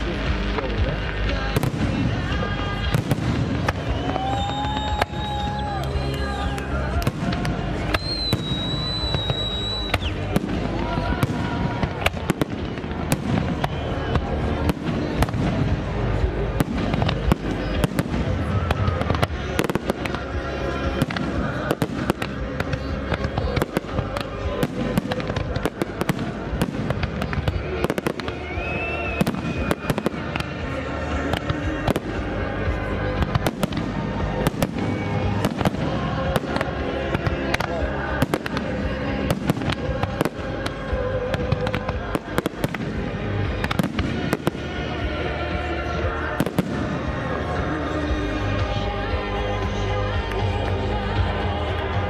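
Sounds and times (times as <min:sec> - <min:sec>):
fireworks bursting and crackling: 0:00.0 - 0:52.0.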